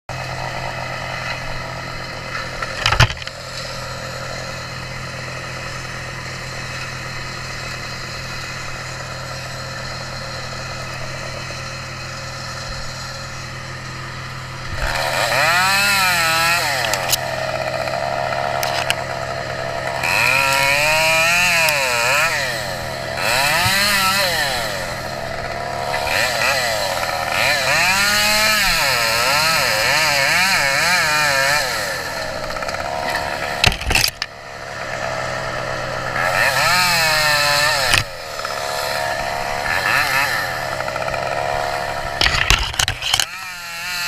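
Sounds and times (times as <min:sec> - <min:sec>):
chainsaw revving while cutting: 0:00.1 - 0:44.0
small engine running: 0:00.1 - 0:44.0.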